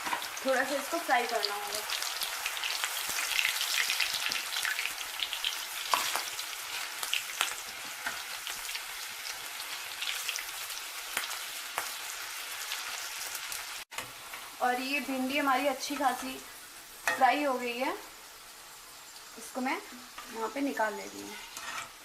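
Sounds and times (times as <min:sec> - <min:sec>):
deep-frying sizzle in hot oil: 0:00.0 - 0:22.0.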